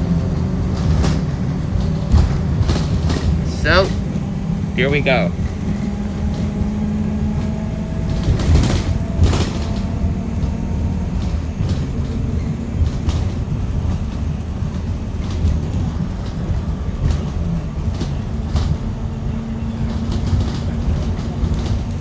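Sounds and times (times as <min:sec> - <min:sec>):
body rattles: 0:00.0 - 0:22.0
bus engine and road rumble: 0:00.0 - 0:22.0.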